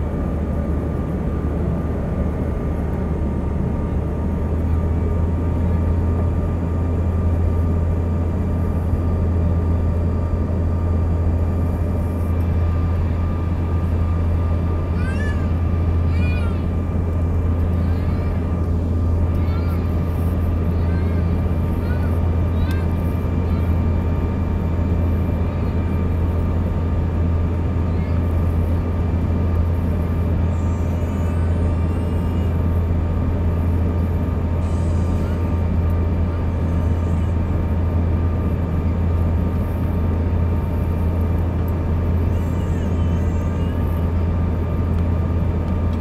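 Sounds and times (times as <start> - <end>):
jet engine cabin drone: 0.0 - 46.0
jet engine whine: 0.0 - 46.0.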